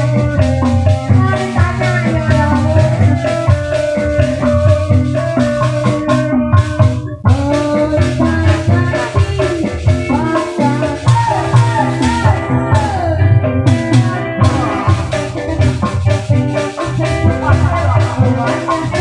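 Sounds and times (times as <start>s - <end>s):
guitar: 0.0s - 19.0s
hand drums beating: 0.0s - 19.0s
sliding lead melody: 0.0s - 19.0s.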